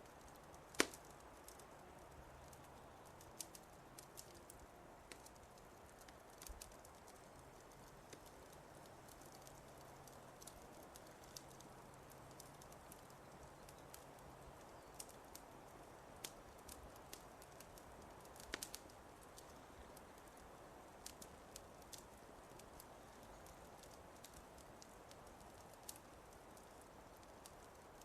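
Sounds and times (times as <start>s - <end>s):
fire crackling and popping: 0.0s - 28.0s
soft steady hiss: 0.0s - 28.0s.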